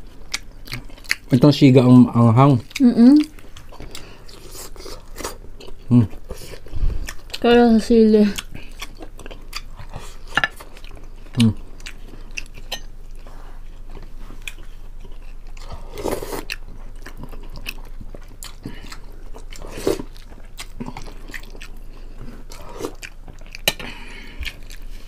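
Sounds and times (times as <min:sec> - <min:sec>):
wet chewing and mouth clicks: 0:00.2 - 0:01.5, 0:02.5 - 0:07.5, 0:08.2 - 0:25.0.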